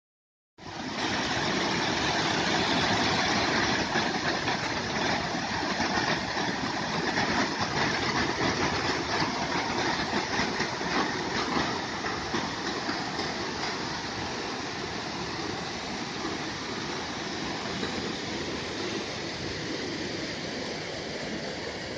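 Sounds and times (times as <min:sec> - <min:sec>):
waterfall rushing: 0:00.7 - 0:21.9.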